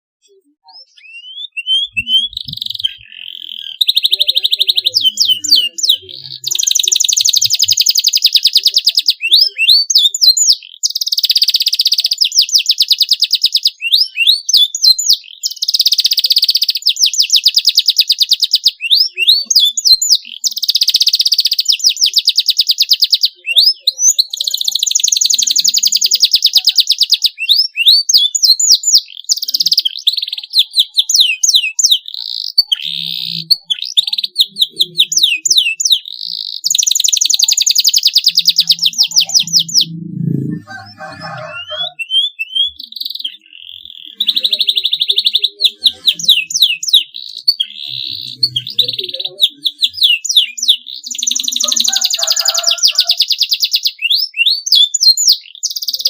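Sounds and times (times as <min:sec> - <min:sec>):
canary singing: 0:00.2 - 0:56.0.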